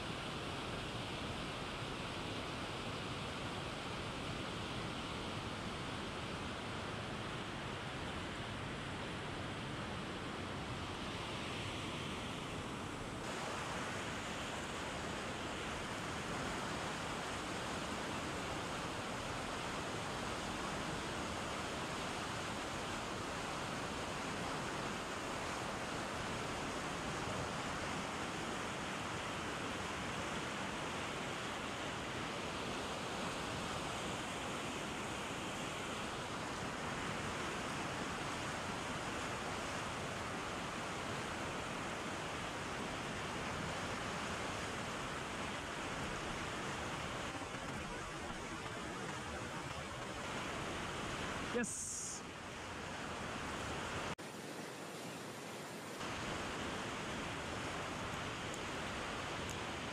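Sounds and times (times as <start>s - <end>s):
whitewater rushing: 11.2s - 59.9s.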